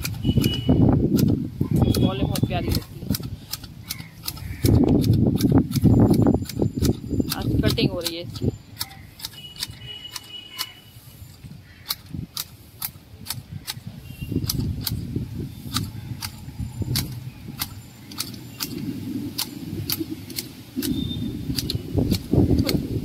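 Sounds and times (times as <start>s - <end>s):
hedge shears snipping foliage: 0.0s - 23.0s.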